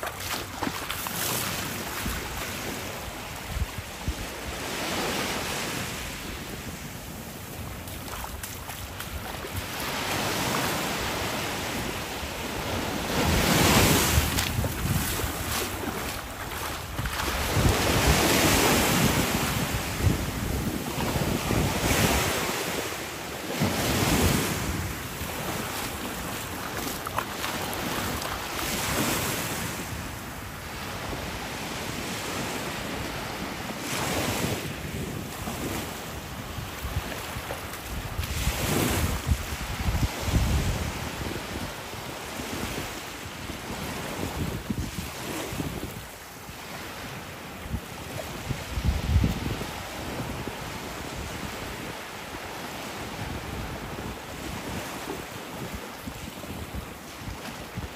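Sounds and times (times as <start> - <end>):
small waves washing on beach: 0.0 - 57.9
wind buffeting microphone: 0.0 - 57.9.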